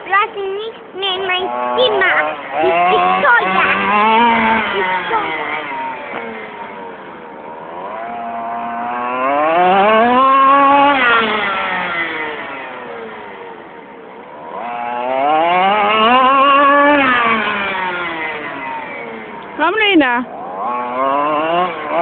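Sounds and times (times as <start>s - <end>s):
model car engine revving: 0.0s - 22.0s.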